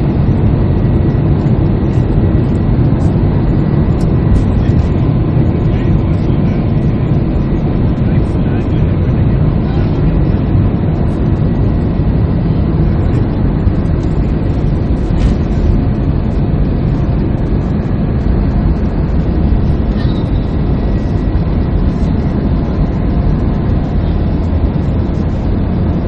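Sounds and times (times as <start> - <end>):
faint high engine whine: 0.0 - 26.0
jet engines deep rumble: 0.0 - 26.0.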